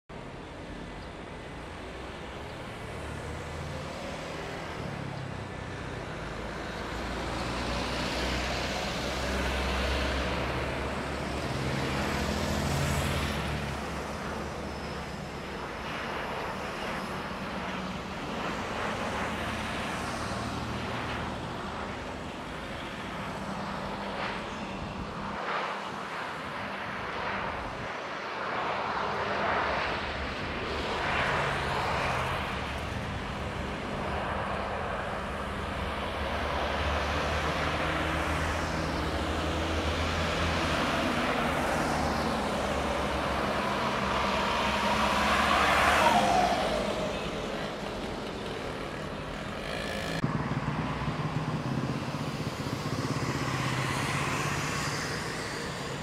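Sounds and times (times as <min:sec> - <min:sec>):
road traffic hum: 0:00.1 - 0:56.0
jet airliner passing overhead: 0:00.2 - 0:56.0.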